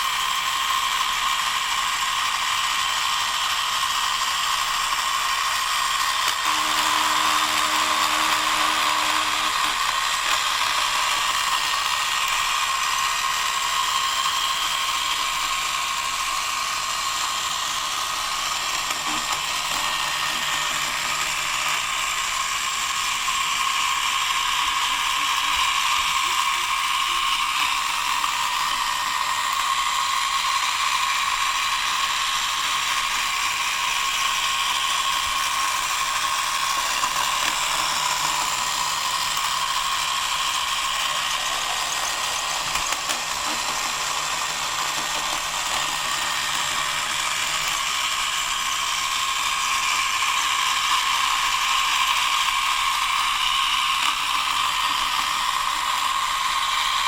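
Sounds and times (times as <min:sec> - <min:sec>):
robot vacuum motor whirring: 0:00.0 - 0:57.0.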